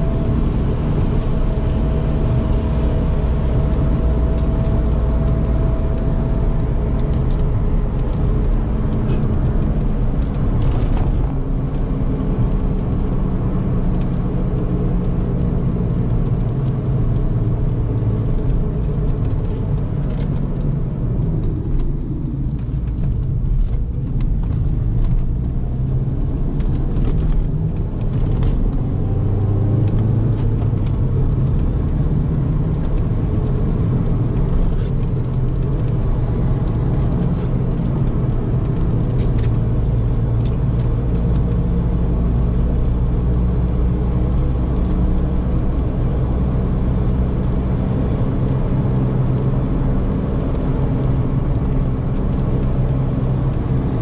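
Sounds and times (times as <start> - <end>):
car engine from inside cabin: 0.0 - 54.0
tyres on wet road: 0.0 - 54.0.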